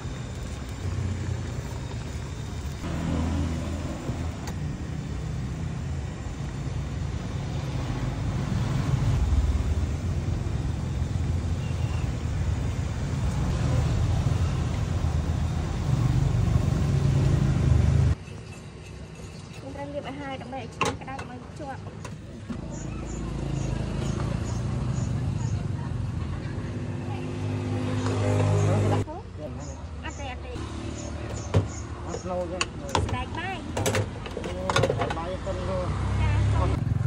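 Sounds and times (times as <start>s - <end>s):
passing motor vehicles rumbling: 0.0s - 18.2s, 22.5s - 37.0s.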